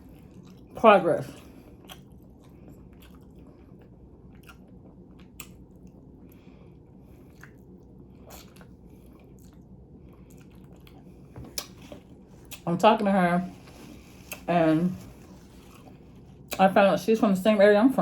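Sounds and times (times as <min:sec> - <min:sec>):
person chewing: 0:00.0 - 0:12.6, 0:13.6 - 0:16.6.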